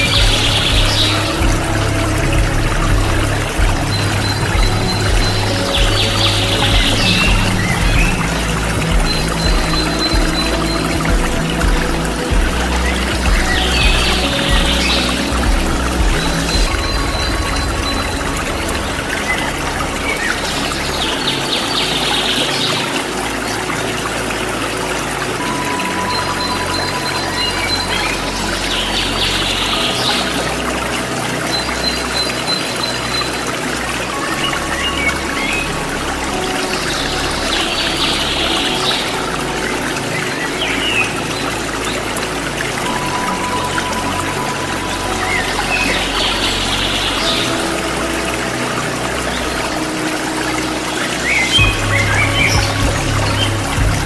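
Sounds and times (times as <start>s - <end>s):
birds chirping: 0.0s - 54.0s
waterfall rushing: 0.0s - 54.0s.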